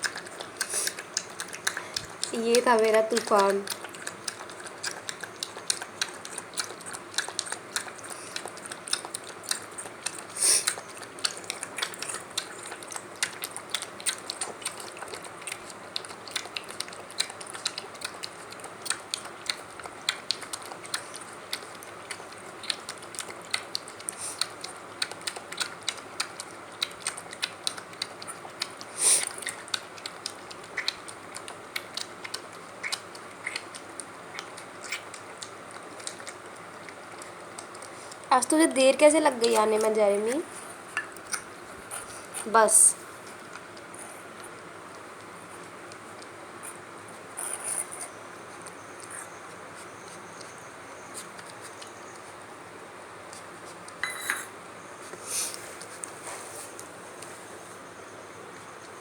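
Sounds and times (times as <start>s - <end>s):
puppy crunching food: 0.0s - 54.1s.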